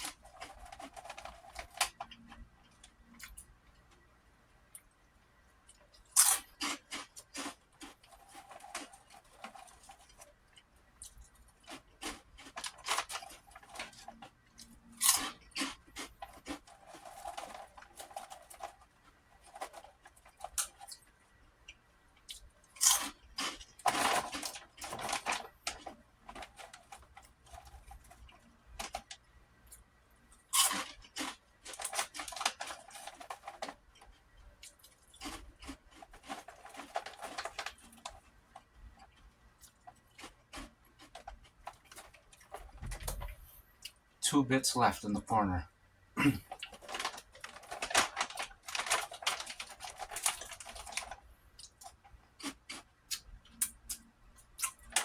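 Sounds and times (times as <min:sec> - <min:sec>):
crunching crackers: 0:00.0 - 0:43.2, 0:46.2 - 0:55.0
chewing crackle: 0:05.6 - 0:42.7, 0:46.4 - 0:55.0.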